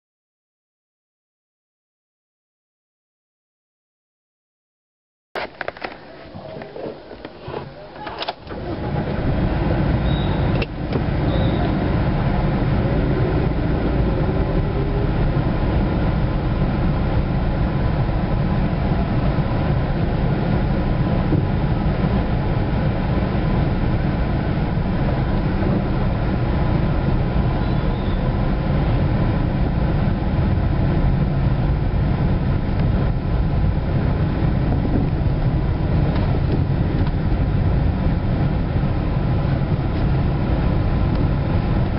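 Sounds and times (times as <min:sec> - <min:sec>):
car engine and tyre rumble: 0:05.4 - 0:41.9.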